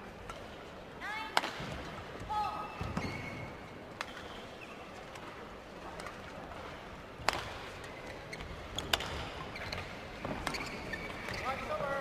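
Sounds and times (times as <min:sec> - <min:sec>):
low hall background: 0:00.0 - 0:12.0.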